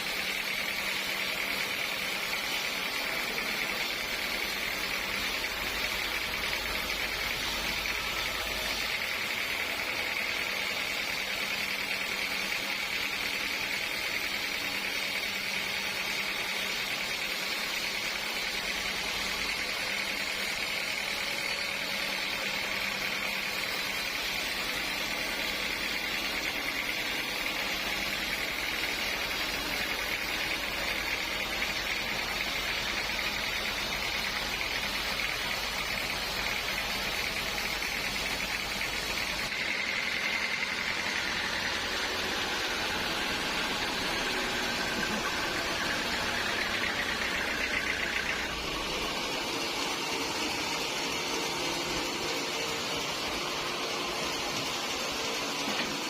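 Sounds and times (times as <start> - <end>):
sawmill machinery whining: 0.0 - 56.0.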